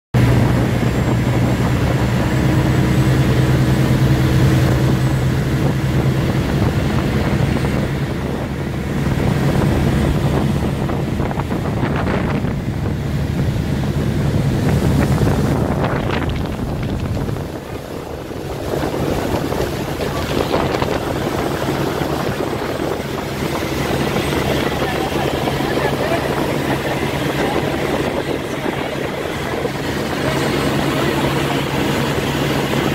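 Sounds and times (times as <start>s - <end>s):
motorboat engine running: 0.2s - 32.9s
water rushing from wake: 0.2s - 32.9s
wind buffeting microphone: 0.2s - 32.9s.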